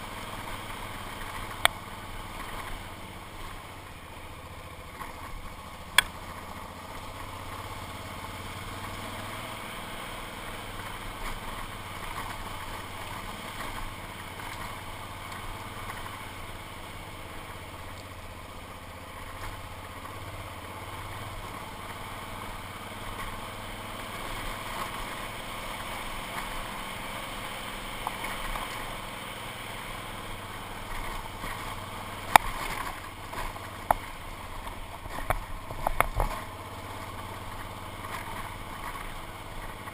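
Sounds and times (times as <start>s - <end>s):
motorcycle engine running: 0.0s - 39.9s
riding rumble: 0.0s - 39.9s.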